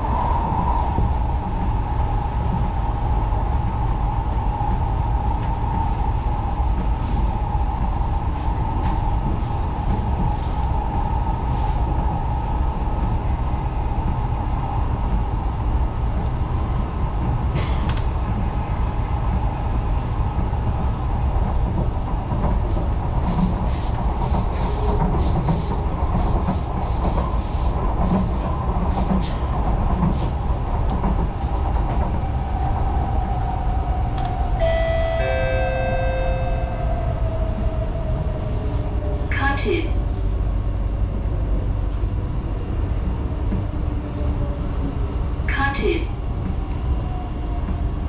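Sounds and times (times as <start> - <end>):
train wheels and motors rumbling: 0.0 - 48.0.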